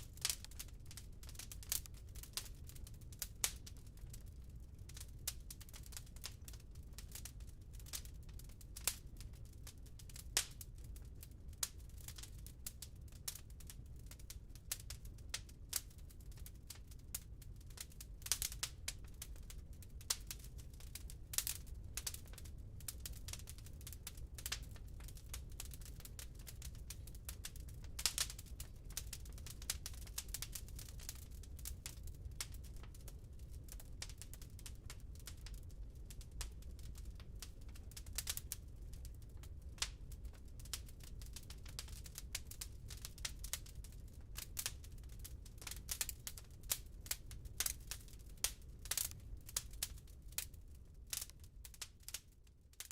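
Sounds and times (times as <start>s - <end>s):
low rumble of flames: 0.0s - 52.9s
wood fire crackling and popping: 0.0s - 52.9s.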